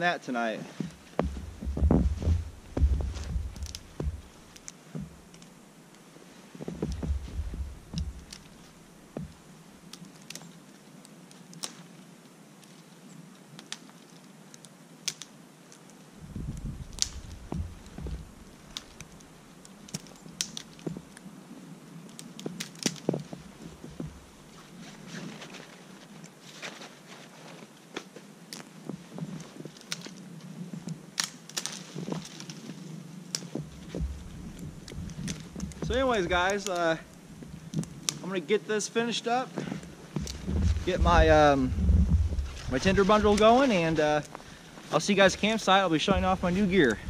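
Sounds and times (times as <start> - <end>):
pine branches rustling: 0.0 - 47.0
dry twigs snapping: 0.8 - 6.0, 6.6 - 21.3, 22.0 - 38.3, 39.6 - 47.0.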